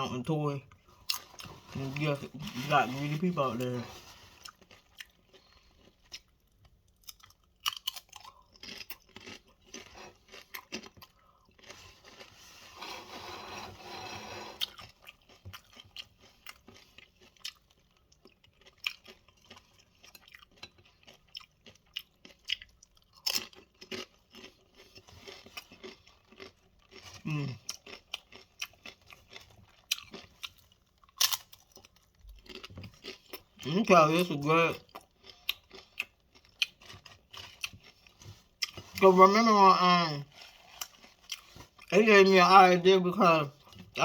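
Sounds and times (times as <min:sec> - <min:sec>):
person crunching chips: 0:00.8 - 0:13.1, 0:13.9 - 0:44.0.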